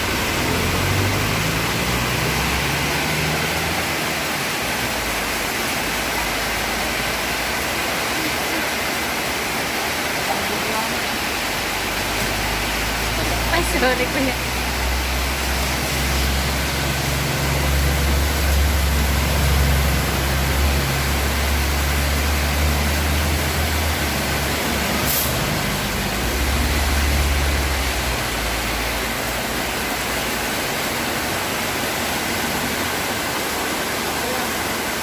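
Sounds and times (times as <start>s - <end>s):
steady rain hissing: 0.0s - 35.0s
vehicle engine rumble: 0.0s - 35.0s.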